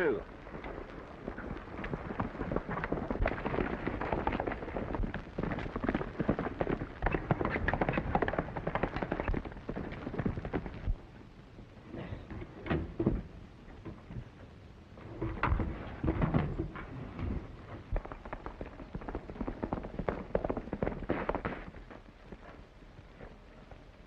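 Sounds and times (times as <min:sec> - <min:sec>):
horses galloping hoofbeats: 0:00.0 - 0:24.0.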